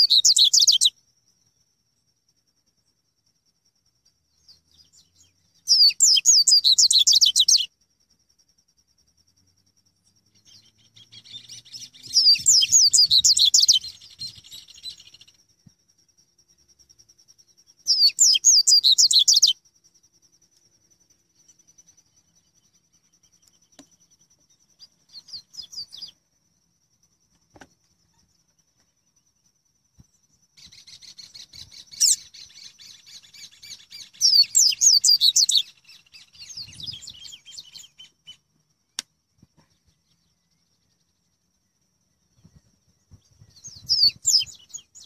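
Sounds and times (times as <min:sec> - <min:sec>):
bird twittering song: 0:00.0 - 0:45.0.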